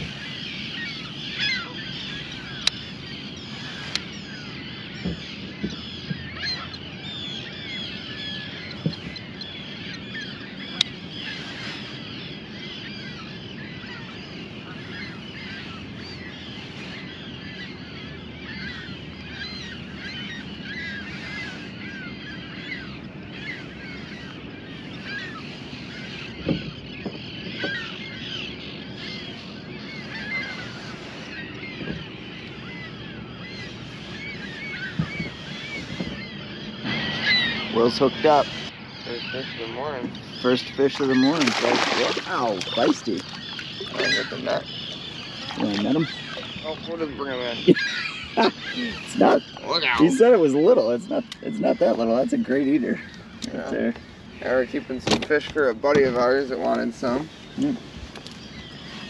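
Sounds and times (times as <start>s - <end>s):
chorus of birds calling: 0.0s - 59.0s.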